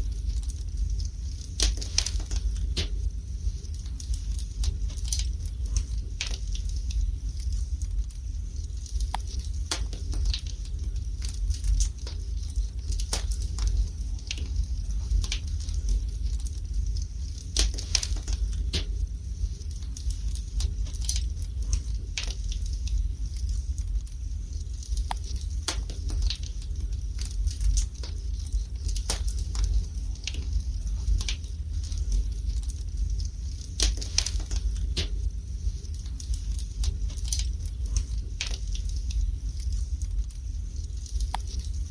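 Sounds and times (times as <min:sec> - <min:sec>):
low steady rumble: 0:00.0 - 0:41.9
wood fire crackling and popping: 0:00.0 - 0:41.9.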